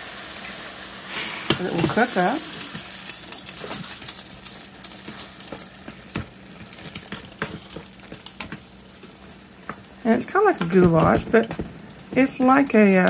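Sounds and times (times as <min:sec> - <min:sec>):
pasta water bubbling: 0:00.4 - 0:13.0.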